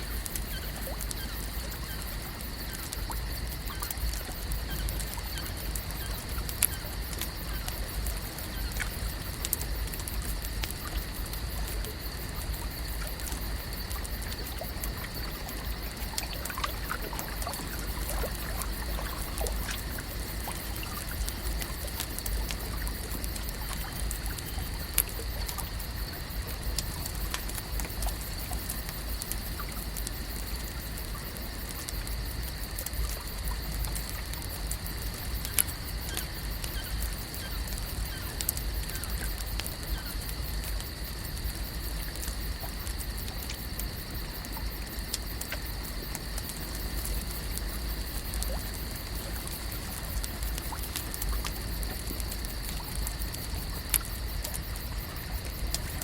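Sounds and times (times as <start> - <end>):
water gently trickling: 0.0 - 56.0.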